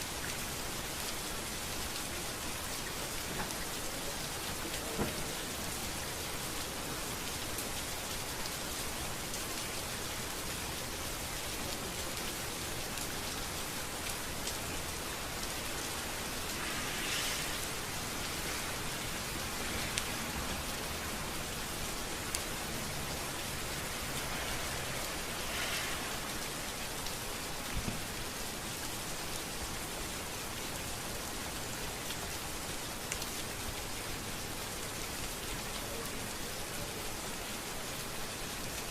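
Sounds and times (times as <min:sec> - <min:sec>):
rain hissing on a street: 0:00.0 - 0:38.9.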